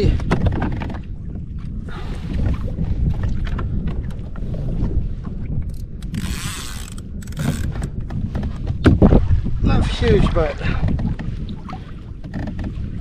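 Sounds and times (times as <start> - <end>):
water moving around kayak: 0.0 - 13.0
wind buffeting microphone: 0.0 - 13.0.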